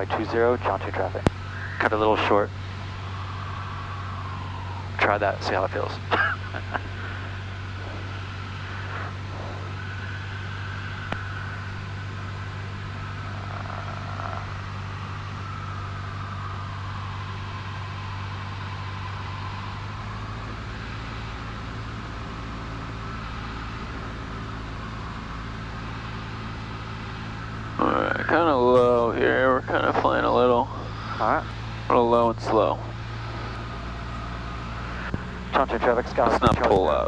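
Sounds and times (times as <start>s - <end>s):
light aircraft engine droning: 0.0s - 37.0s.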